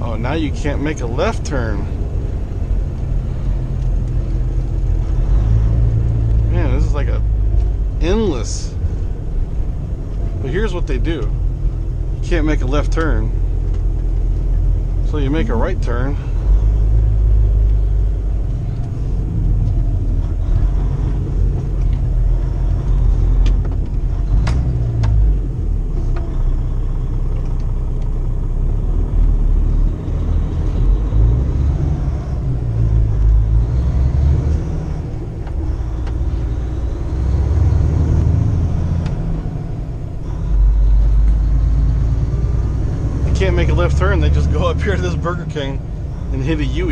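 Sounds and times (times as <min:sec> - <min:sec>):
truck diesel engine drone: 0:00.0 - 0:46.9.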